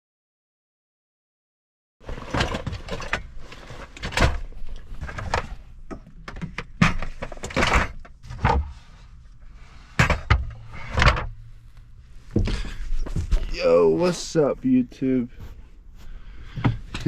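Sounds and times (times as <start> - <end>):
quiet clattering: 2.0 - 17.0.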